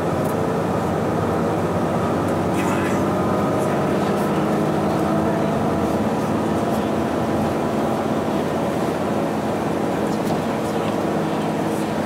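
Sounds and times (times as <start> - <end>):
bus diesel engine drone: 0.0 - 12.0
road and body noise: 0.0 - 12.0.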